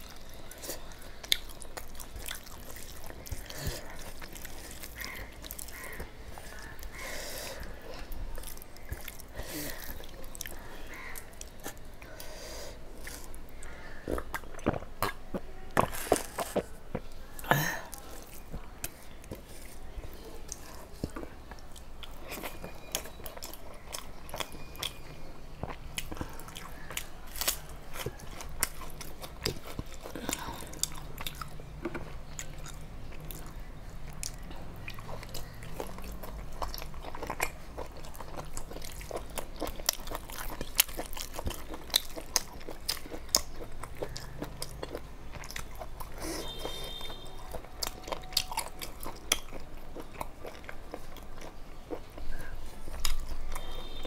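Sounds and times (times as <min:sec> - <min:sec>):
chewing and crunching fried food: 0:00.0 - 0:54.0.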